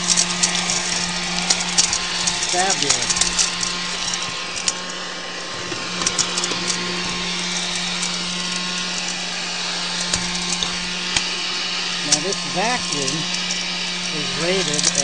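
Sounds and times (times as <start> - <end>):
grit ticking in vacuum: 0.0 - 15.0
vacuum cleaner humming: 0.0 - 15.0.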